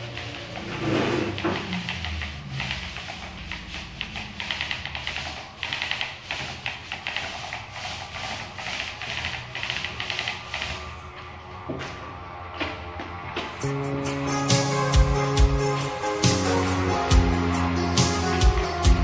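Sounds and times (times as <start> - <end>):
paint roller swishing on wall: 0.0 - 19.0.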